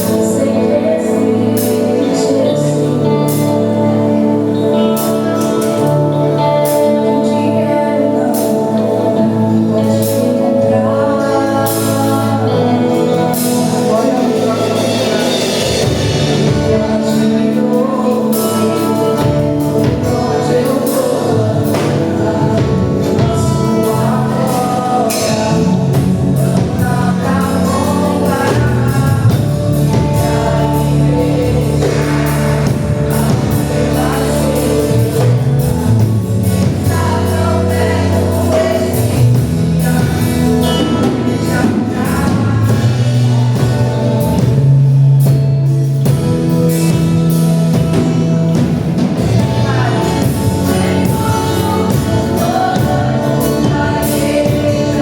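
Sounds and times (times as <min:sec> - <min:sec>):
band with bass and drums: 0:00.0 - 0:55.0
gospel singing: 0:00.0 - 0:55.0.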